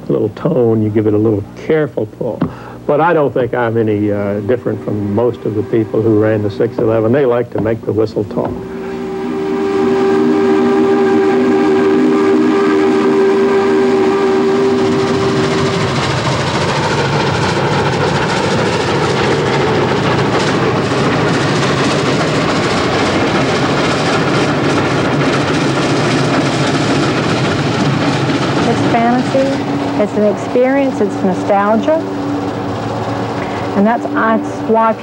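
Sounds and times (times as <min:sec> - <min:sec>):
train running at speed: 0:02.4 - 0:35.0
rail clicks: 0:03.2 - 0:35.0
steam whistle chord: 0:03.9 - 0:07.4, 0:08.4 - 0:35.0.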